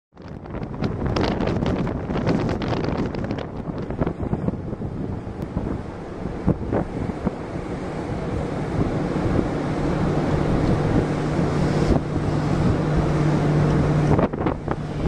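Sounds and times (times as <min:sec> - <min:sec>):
wind buffeting microphone: 0:00.1 - 0:15.0
steady low hum: 0:00.6 - 0:15.0.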